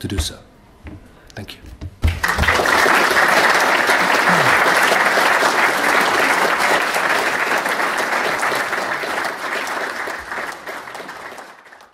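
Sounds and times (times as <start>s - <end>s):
audience applauding: 2.1s - 11.9s.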